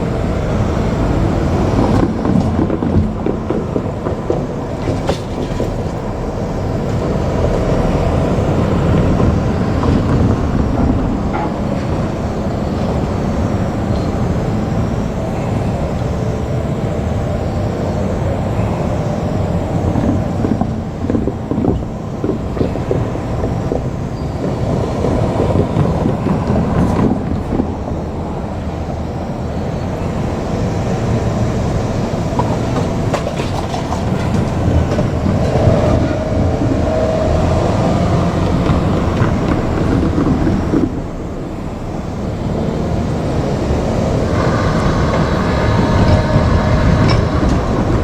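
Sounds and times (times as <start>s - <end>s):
train wheels clattering over rails: 0.0s - 48.0s.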